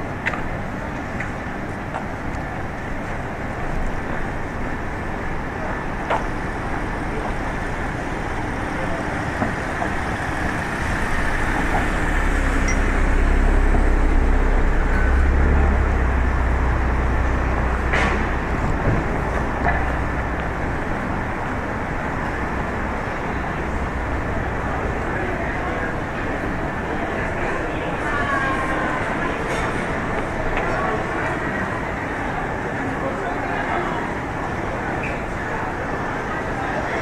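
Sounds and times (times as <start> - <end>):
city street traffic: 0.0 - 37.0
heavy vehicle engine rumble: 0.0 - 37.0.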